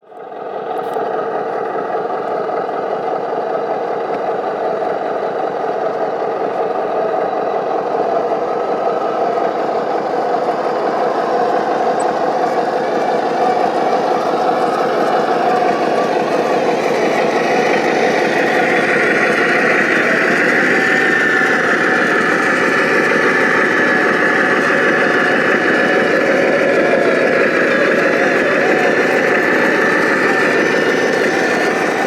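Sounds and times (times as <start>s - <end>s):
model truck engine drone: 0.0s - 32.0s.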